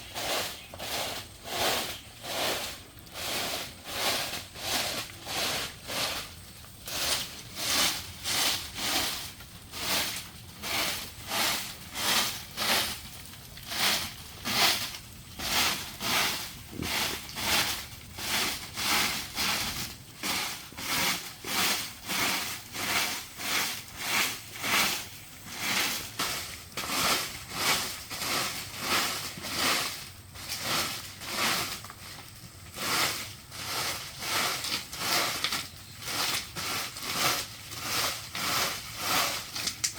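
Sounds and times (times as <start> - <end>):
hand tool rasping bamboo: 0.1 - 39.9.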